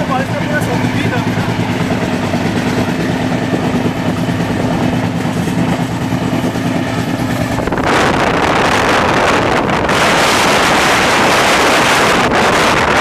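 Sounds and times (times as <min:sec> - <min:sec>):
train rumble inside coach: 0:00.0 - 0:13.0
wind rushing across microphone: 0:00.6 - 0:13.0.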